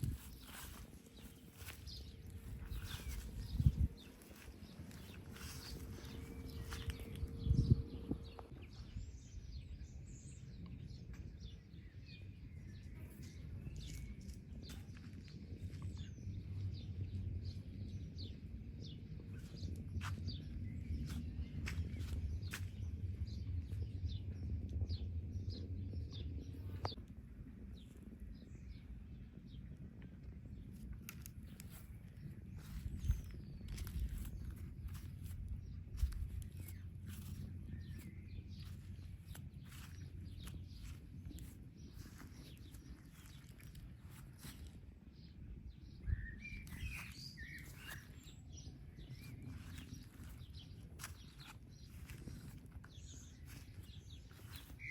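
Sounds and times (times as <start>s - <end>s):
birds singing: 0.0s - 27.0s, 27.6s - 54.9s
songbird chirping: 0.0s - 27.1s, 27.7s - 54.9s
wind rumble on microphone: 0.0s - 54.9s.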